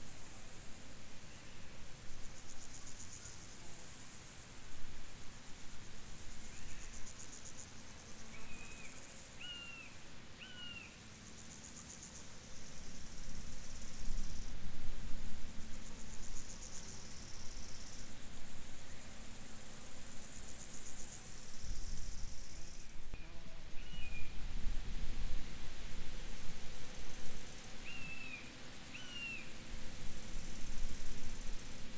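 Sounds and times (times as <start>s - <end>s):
field insects trilling: 0.1s - 31.9s.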